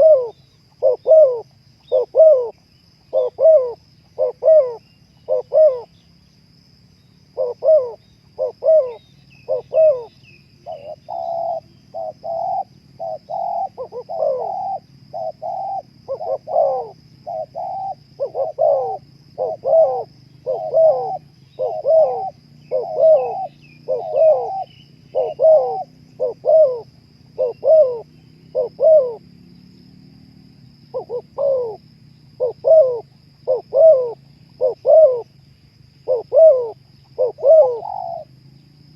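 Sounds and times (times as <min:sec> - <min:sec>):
dove cooing: 0:00.0 - 0:06.0, 0:07.3 - 0:29.3, 0:30.8 - 0:35.3, 0:36.0 - 0:38.4
small birds chirping: 0:00.0 - 0:30.0, 0:30.6 - 0:38.9.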